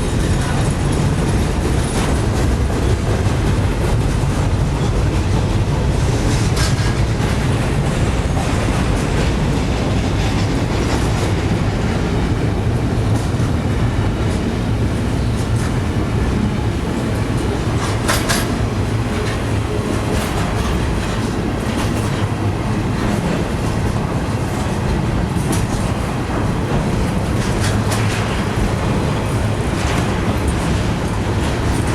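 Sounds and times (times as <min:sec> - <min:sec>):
sharp rail clacks: 0:00.0 - 0:31.9
train wheels rumbling on rails: 0:00.0 - 0:31.9.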